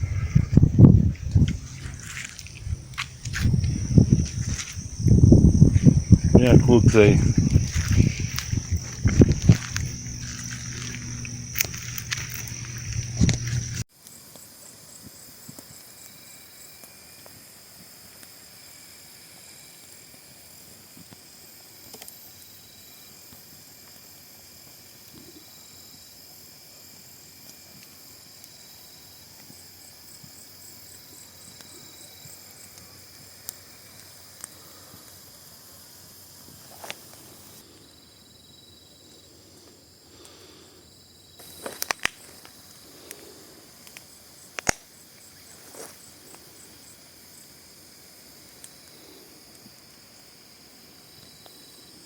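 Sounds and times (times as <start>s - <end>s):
insects hissing and trilling: 0.0s - 52.0s.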